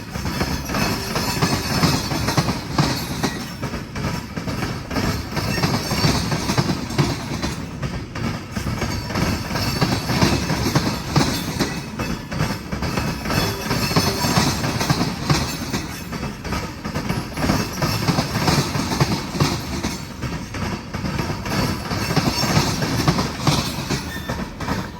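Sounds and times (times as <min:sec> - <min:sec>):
steel wheels rumbling on rail: 0:00.0 - 0:24.9
wheels clacking over rail joints: 0:00.0 - 0:24.9.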